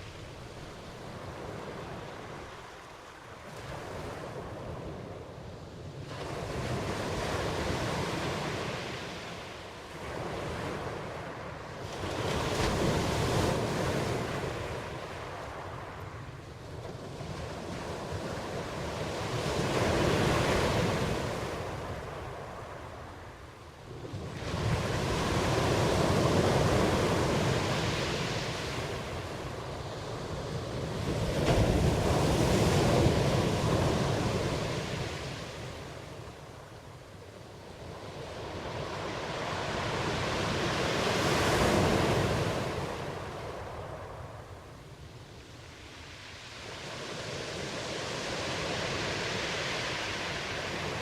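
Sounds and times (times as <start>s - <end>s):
ocean waves breaking on shore: 0.0s - 51.0s.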